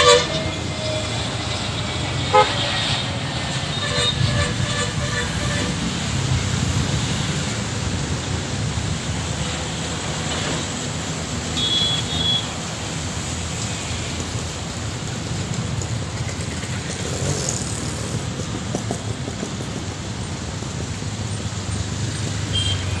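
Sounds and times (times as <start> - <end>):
distant engines rumbling: 0.0 - 23.0.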